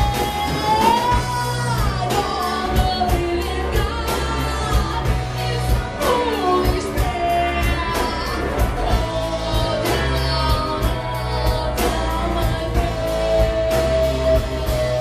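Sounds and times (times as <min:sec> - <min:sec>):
gliding lead melody: 0:00.0 - 0:15.0
steady bass: 0:00.0 - 0:15.0.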